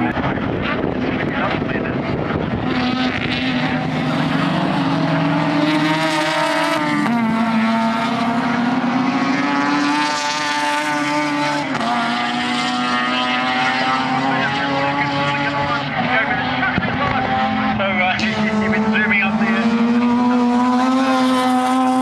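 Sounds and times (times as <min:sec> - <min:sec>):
race car engines screaming: 0:00.0 - 0:22.0.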